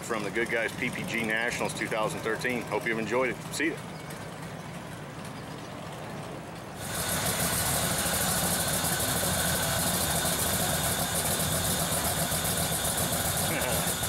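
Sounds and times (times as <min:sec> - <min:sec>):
engine idling with fast even beat: 0:00.0 - 0:14.0.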